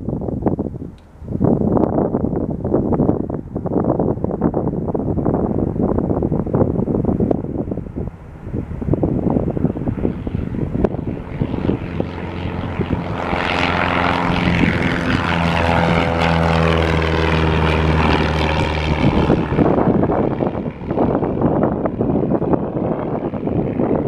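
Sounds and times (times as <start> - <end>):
propeller plane engine at full power: 0.0 - 24.0
wind gusting on microphone: 0.0 - 24.0.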